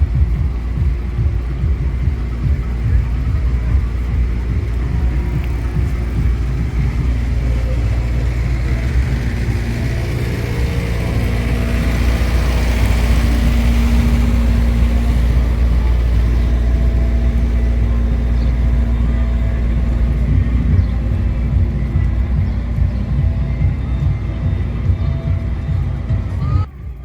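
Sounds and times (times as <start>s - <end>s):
road traffic rumble: 0.0s - 27.0s
vehicle engine: 0.0s - 27.0s.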